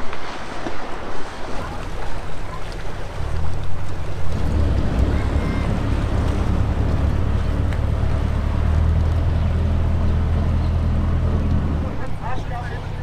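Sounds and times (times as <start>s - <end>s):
water churning: 0.0s - 13.0s
ship engine droning: 1.7s - 13.0s.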